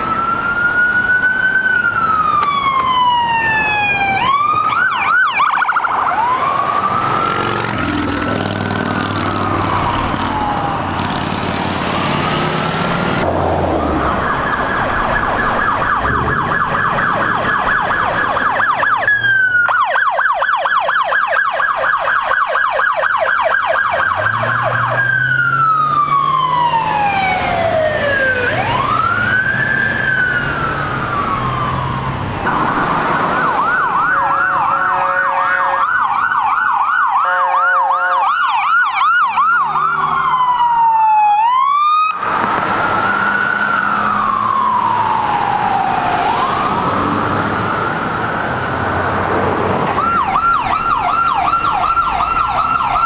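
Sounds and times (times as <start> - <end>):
emergency vehicle sirens: 0.0 - 53.0
traffic engine rumble: 0.0 - 53.0.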